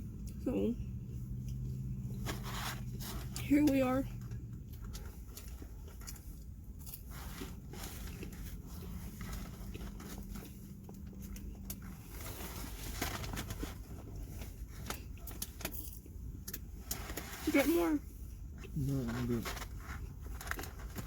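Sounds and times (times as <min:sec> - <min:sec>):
chewing and crunching food: 0:00.0 - 0:21.0
low steady hum: 0:00.0 - 0:21.0
small clicks and rustles: 0:01.4 - 0:21.0.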